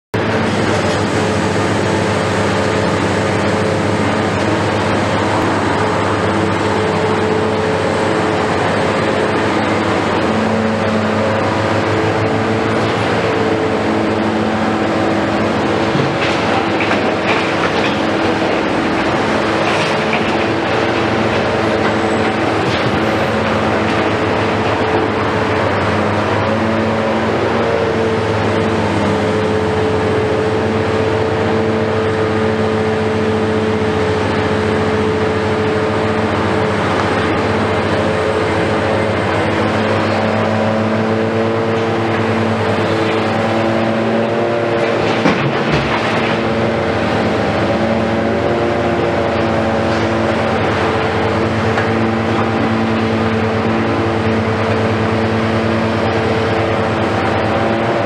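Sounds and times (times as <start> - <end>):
excavator diesel engines running: 0.2 - 58.0.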